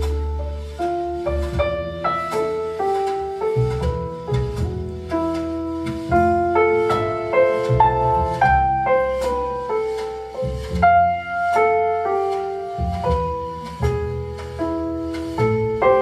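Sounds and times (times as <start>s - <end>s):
piano music through loudspeakers: 0.0s - 16.0s.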